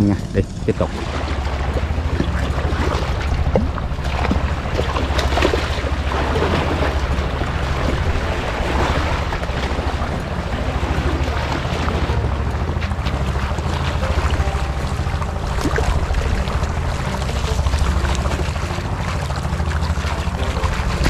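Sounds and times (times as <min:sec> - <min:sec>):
water splashing from wading: 0:00.0 - 0:21.0
wind buffeting microphone: 0:00.0 - 0:21.0.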